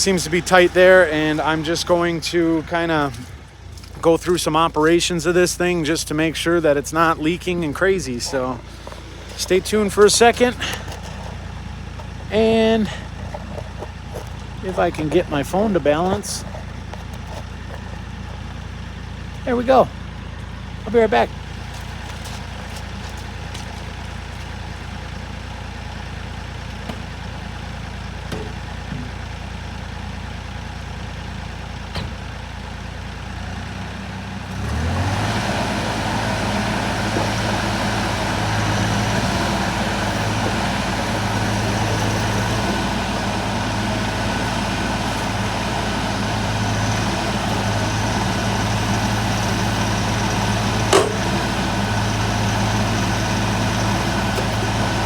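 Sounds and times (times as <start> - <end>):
excavator diesel engine revving: 0.0 - 55.0.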